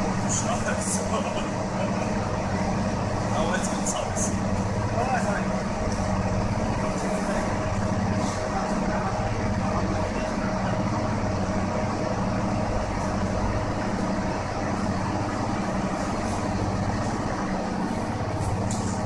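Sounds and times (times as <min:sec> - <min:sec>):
locomotive machinery hum: 0:00.0 - 0:19.0.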